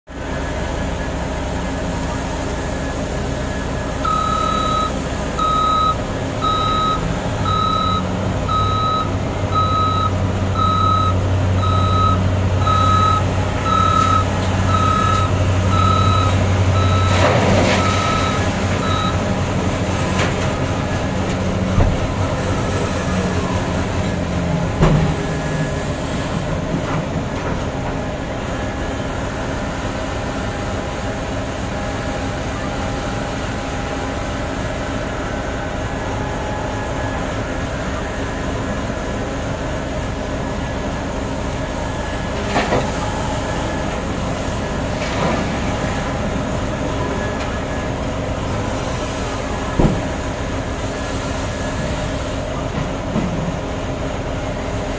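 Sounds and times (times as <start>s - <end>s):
diesel engines rumbling: 0.0s - 54.9s
truck reversing alarm beeping: 0.1s - 26.6s, 27.7s - 54.9s.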